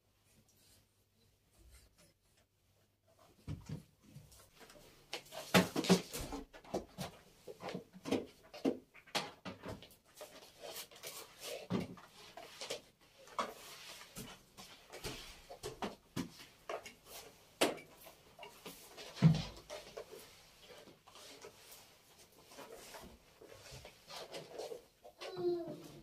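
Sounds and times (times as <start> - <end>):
household objects clicking and knocking: 3.2 - 26.0.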